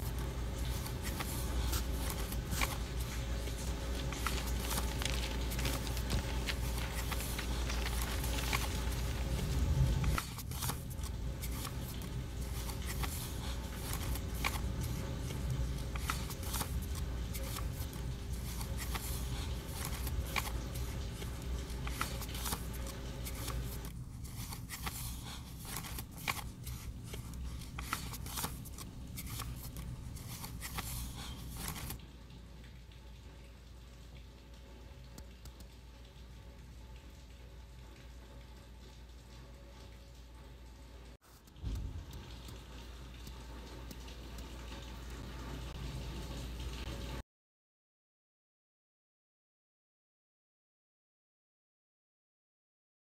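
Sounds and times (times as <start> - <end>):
low steady hum: 0.0 - 47.2.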